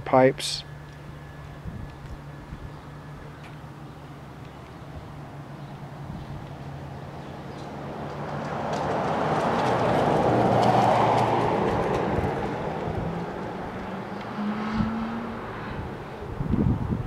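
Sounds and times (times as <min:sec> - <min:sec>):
vehicle passing by: 0:00.6 - 0:17.0.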